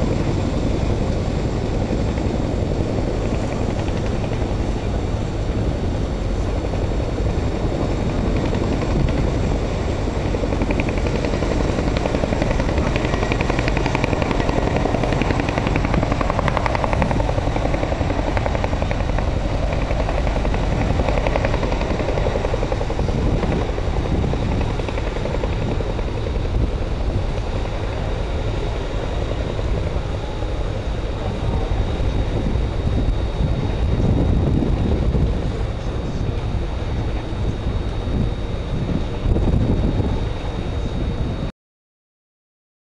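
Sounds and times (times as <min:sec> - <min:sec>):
helicopter rotors and engines running: 0:00.0 - 0:41.5.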